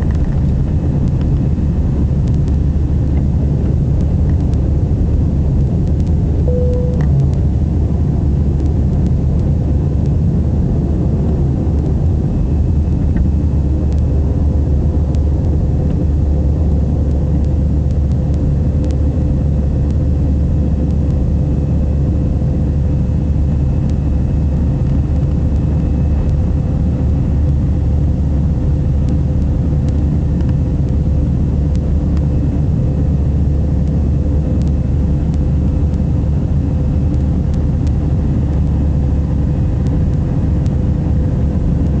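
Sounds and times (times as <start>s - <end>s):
jet engine rumble and whine: 0.0s - 42.0s.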